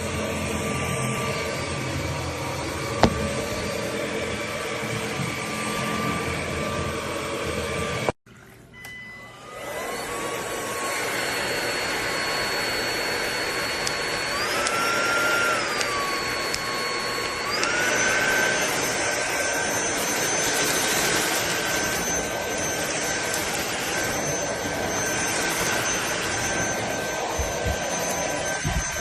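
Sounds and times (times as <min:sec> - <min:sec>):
stick vacuum running: 0:00.0 - 0:08.2, 0:08.8 - 0:29.0.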